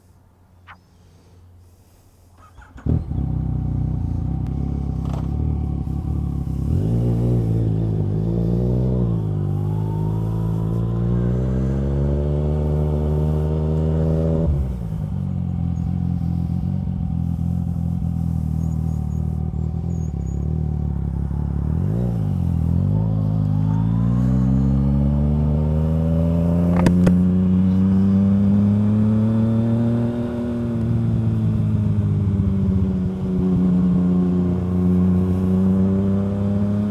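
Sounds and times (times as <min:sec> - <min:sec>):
motorcycle engine revving: 0:02.4 - 0:36.9.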